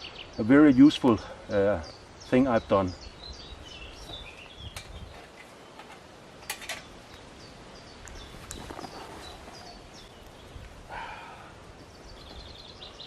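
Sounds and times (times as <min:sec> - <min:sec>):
birds chirping: 0:00.0 - 0:13.0
outdoor hush: 0:00.0 - 0:13.0.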